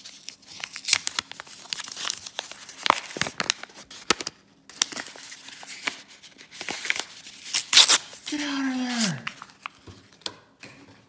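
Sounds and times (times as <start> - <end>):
wrapping tearing and crinkling: 0.0 - 9.8.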